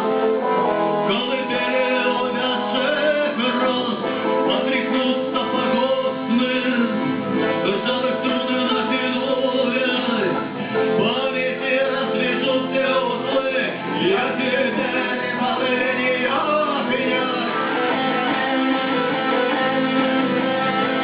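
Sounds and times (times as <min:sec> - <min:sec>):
acoustic guitar strumming: 0:00.0 - 0:21.0
person singing: 0:00.0 - 0:21.0.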